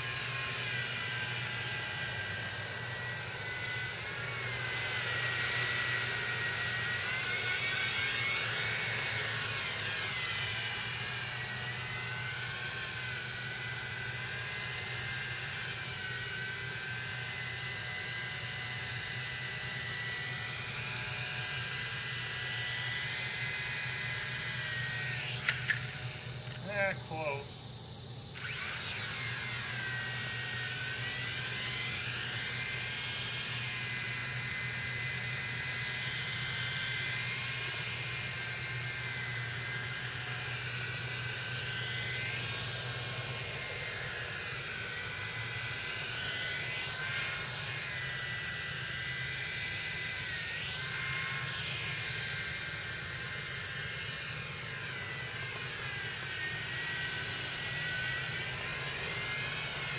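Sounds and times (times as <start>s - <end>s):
toy helicopter rotor whine: 0.0s - 59.9s.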